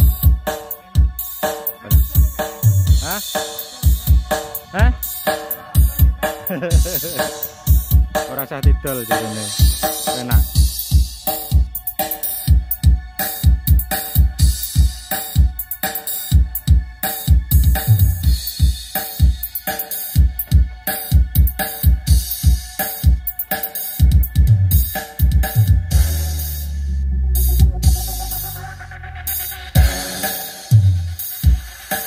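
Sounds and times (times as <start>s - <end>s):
electronic dance music: 0.0s - 32.0s.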